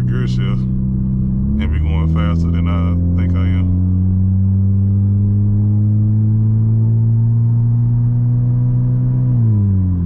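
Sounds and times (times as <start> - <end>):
car exhaust droning: 0.0 - 10.0.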